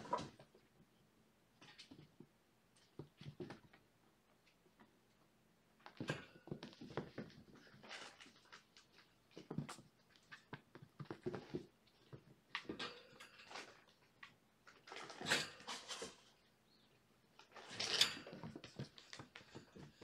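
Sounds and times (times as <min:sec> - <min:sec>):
kittens scampering and play-fighting: 0:00.0 - 0:20.0.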